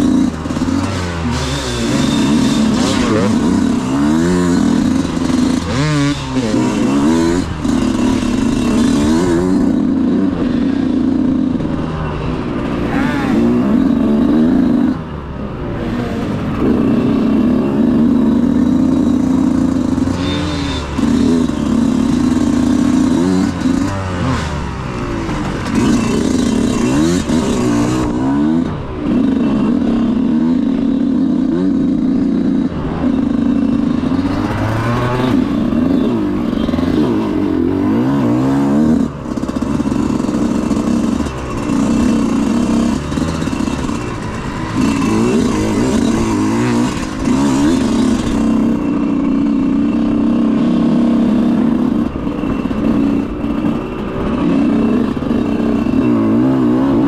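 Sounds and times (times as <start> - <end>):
off-road motorcycle engine revving: 0.0 - 57.0.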